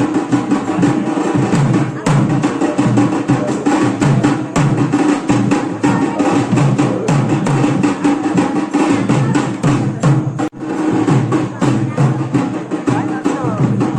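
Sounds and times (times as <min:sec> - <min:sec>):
drums playing fast rhythm: 0:00.0 - 0:13.9.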